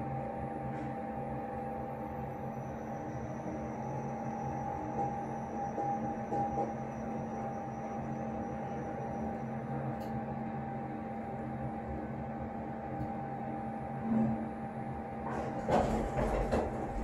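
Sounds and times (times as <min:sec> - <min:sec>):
elevator machinery hum: 0:00.0 - 0:17.0
thin constant whine: 0:00.0 - 0:17.0.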